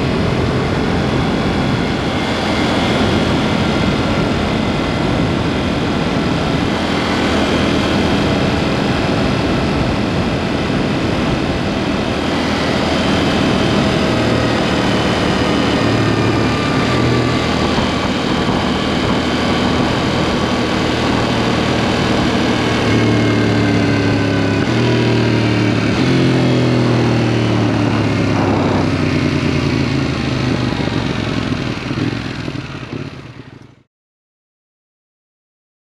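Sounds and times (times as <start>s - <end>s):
motorcycle engine revving: 0.0s - 33.9s
road and wind noise: 0.0s - 33.9s.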